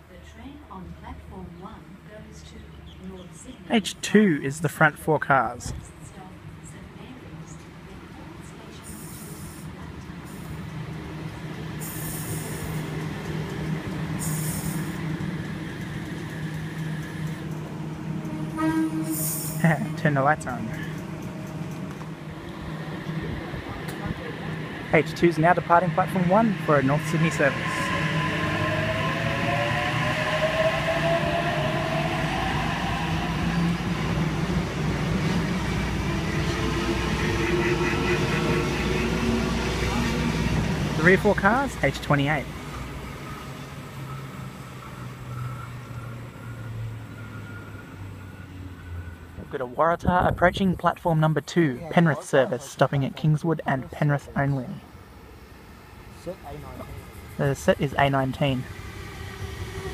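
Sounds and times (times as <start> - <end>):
electric train low hum: 0.0 - 59.9.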